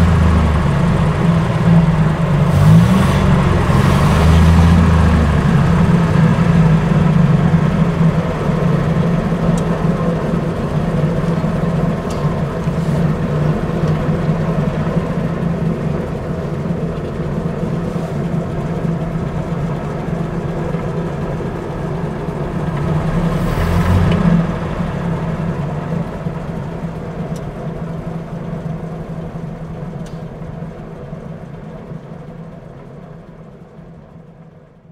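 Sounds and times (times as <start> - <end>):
car engine running steadily: 0.0 - 34.9.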